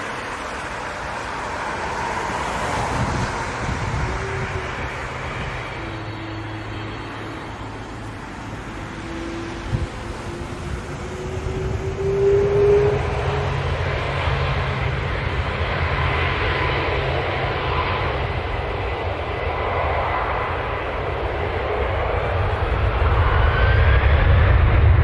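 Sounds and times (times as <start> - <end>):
thin steady whine: 0.0 - 24.1
jet engines running: 0.0 - 25.0.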